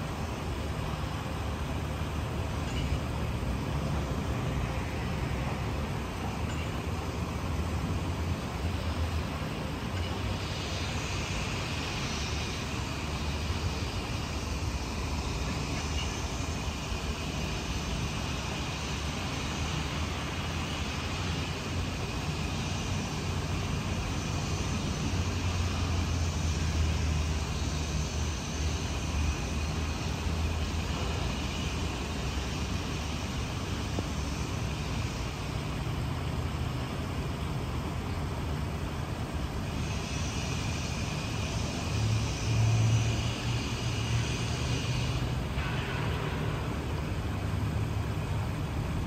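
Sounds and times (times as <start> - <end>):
faint hiss: 0.0 - 49.0
road traffic rumble: 0.0 - 49.0.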